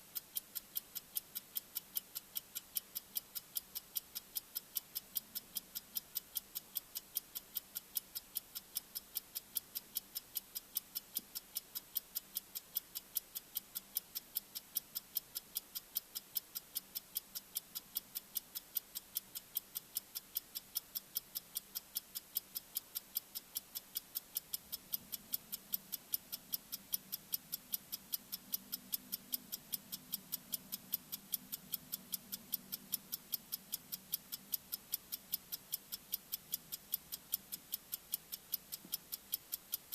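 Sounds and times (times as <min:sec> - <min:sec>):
clock-like timer ticks: 0:00.0 - 0:39.9.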